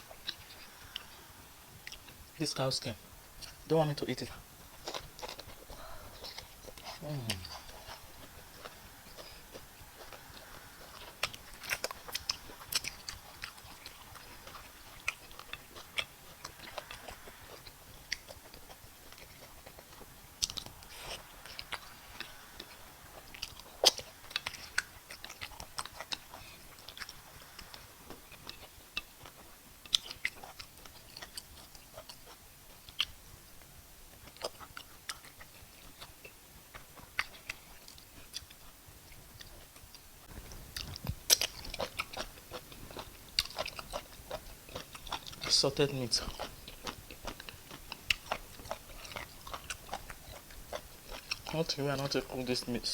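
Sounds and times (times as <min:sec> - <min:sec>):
person chewing: 0:00.0 - 0:52.9.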